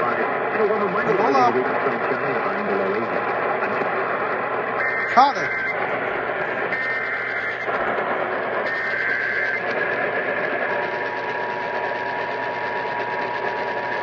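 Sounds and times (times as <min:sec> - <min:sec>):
harsh buzzing data screech: 0:00.0 - 0:14.0
static: 0:00.0 - 0:14.0.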